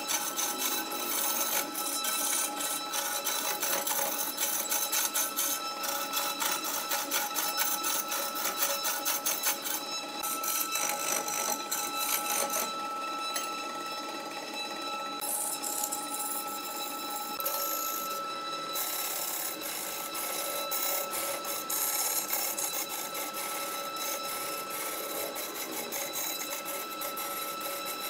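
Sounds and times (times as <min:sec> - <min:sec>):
turning tool scraping wood: 0:00.0 - 0:28.0
wood lathe whine: 0:00.0 - 0:28.0.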